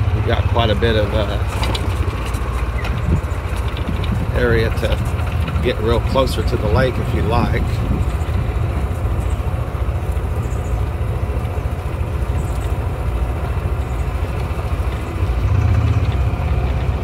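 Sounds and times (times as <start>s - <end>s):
small vehicle rumbling on road: 0.0s - 17.0s.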